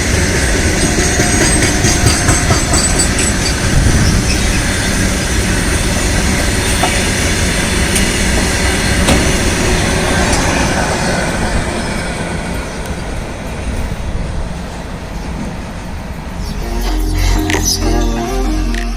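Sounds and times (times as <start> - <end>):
train wheels rattling on rails: 0.0 - 16.4.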